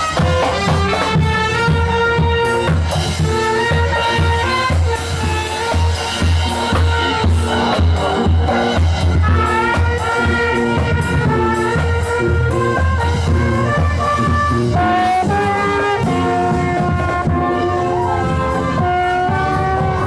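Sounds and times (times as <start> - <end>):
brass marching band playing: 0.0 - 20.0
sousaphone bass line: 0.0 - 20.0.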